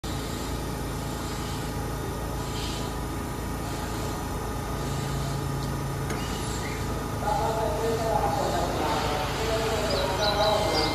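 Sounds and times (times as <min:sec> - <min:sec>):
constant hiss: 0:00.0 - 0:10.9
train equipment humming: 0:00.0 - 0:10.9.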